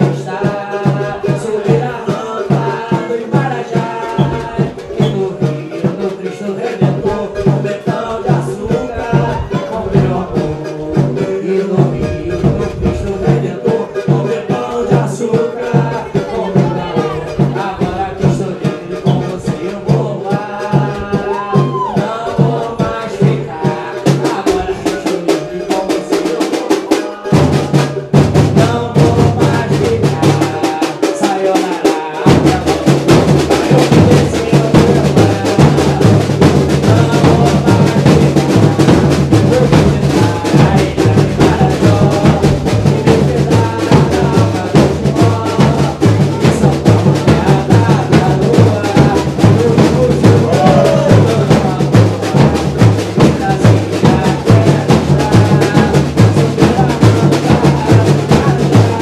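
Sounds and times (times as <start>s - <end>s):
deep bass drums: 0.0s - 25.0s, 27.3s - 30.7s, 32.2s - 59.0s
samba drum section playing: 0.0s - 59.0s
sharp drum hits: 0.0s - 59.0s.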